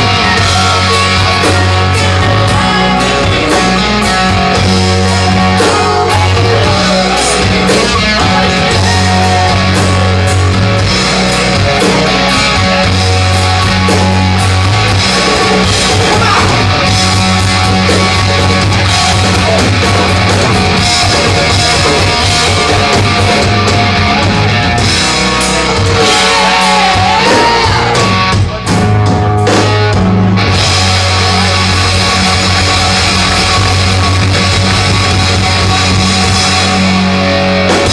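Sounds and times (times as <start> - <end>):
hard rock band playing: 0.0 - 37.9.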